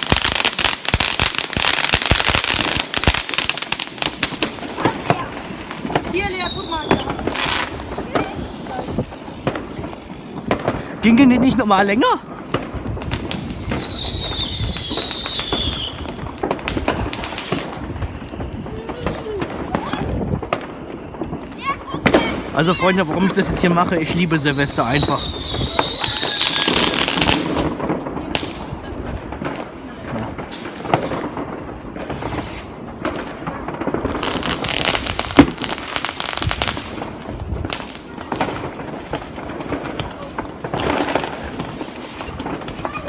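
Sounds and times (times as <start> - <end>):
whistling firework: 0.0 - 10.8, 12.2 - 43.0
firecracker bangs and cracks: 0.0 - 43.0.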